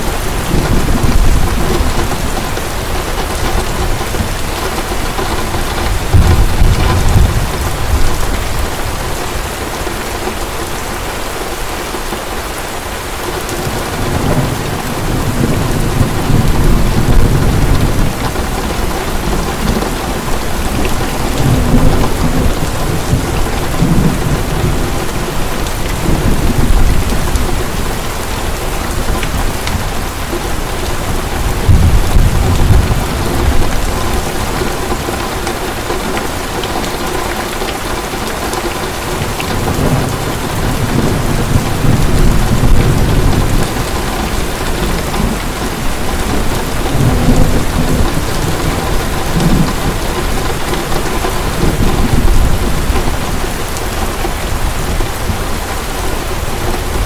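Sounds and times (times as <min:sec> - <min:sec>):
rolling thunder: 0:00.0 - 0:10.8, 0:13.6 - 0:37.5, 0:38.3 - 0:55.6
heavy rain hissing: 0:00.0 - 0:57.0.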